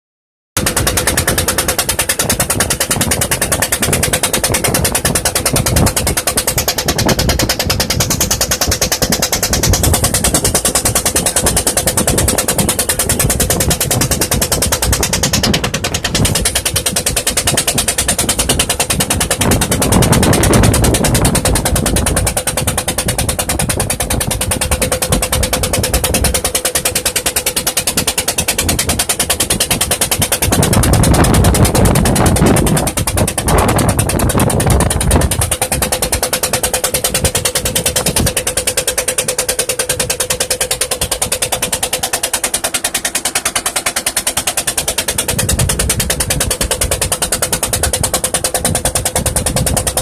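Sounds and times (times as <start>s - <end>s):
small engine knocking rattle: 0.6s - 50.0s.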